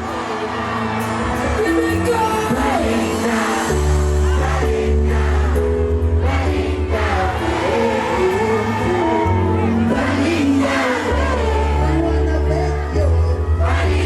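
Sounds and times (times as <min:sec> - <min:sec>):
reggae pop song with vocals: 0:00.1 - 0:14.0.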